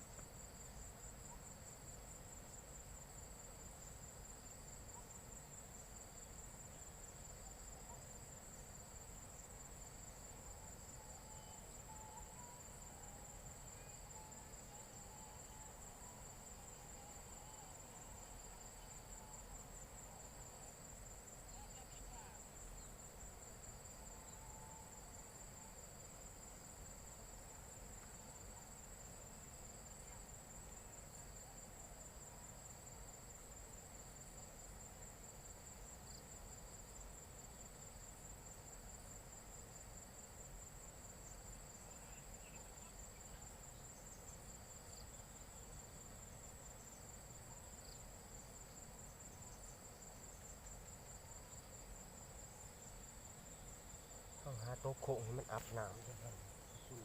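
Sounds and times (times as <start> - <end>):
night insects chirring: 0.0 - 57.0.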